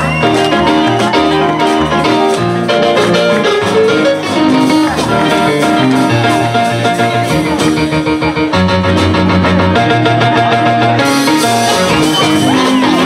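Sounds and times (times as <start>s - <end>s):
guitar melody: 0.0s - 13.0s
live band playing: 0.0s - 13.0s.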